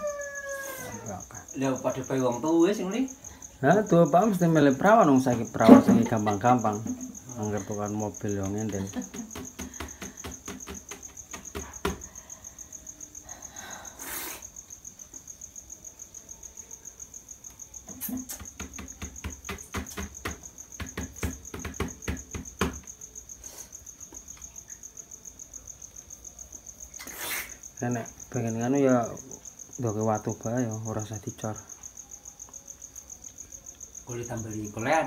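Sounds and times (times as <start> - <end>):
cricket chirping: 0.0 - 35.0.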